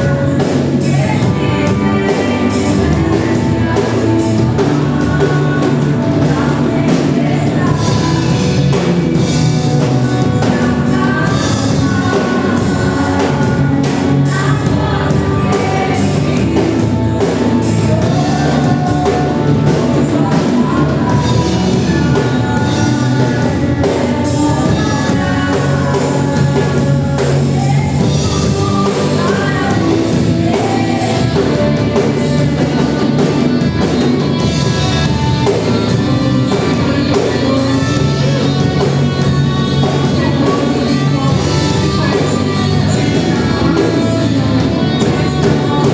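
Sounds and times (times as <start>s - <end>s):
person singing: 0.0s - 45.9s
worship band playing: 0.0s - 45.9s.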